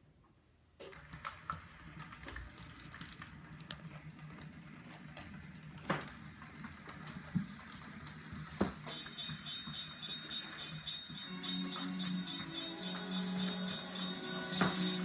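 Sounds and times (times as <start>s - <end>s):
wheels clattering on track: 0.9s - 15.0s.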